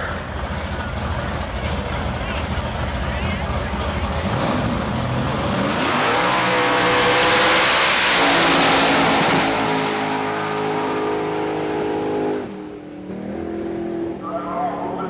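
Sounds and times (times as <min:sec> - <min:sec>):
drag race car engine at full throttle: 0:00.0 - 0:15.0.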